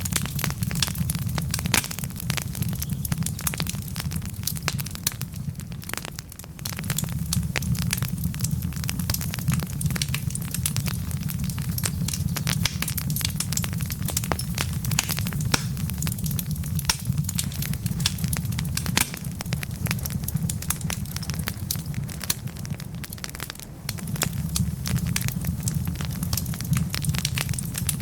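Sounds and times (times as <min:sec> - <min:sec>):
low rumble of flame: 0:00.0 - 0:28.0
wood fire crackling: 0:00.0 - 0:28.0.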